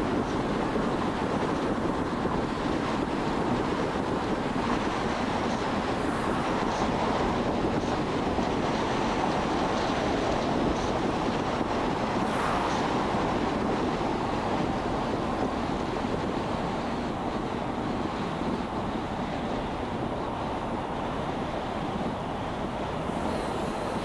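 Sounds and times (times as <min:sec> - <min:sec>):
air rushing past car: 0:00.0 - 0:24.0.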